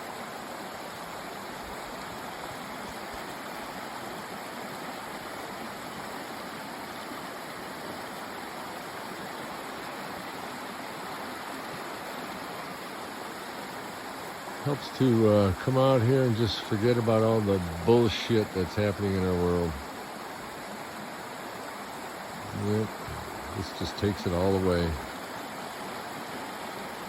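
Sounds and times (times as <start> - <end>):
creek rushing over rocks: 0.0 - 27.0.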